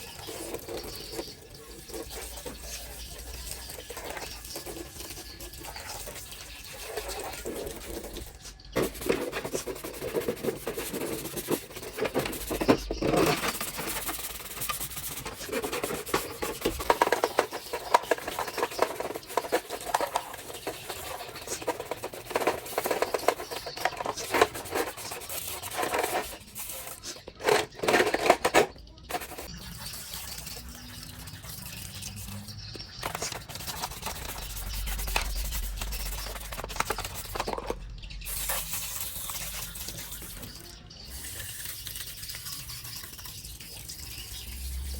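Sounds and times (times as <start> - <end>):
hands rubbing and scraping parts: 0.0 - 29.5, 31.9 - 40.6.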